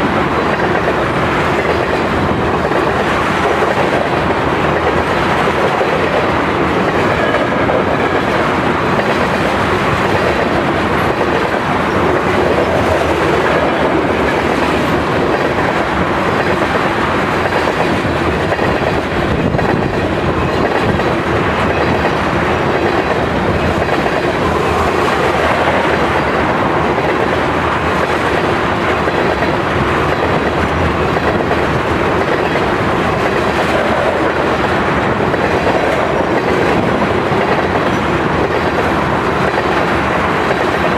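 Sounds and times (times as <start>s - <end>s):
freight train wheels on rails: 0.0s - 40.9s.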